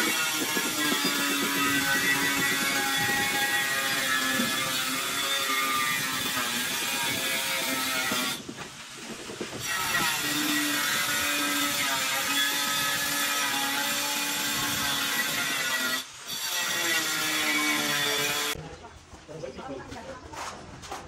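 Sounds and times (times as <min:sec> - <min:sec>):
power tool buzzing on tile: 0:00.0 - 0:08.4, 0:09.3 - 0:18.6.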